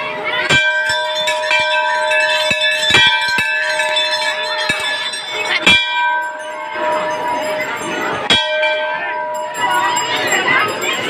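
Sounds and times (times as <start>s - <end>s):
brass bells ringing: 0.0s - 11.0s
sharp bell strokes: 0.4s - 11.0s.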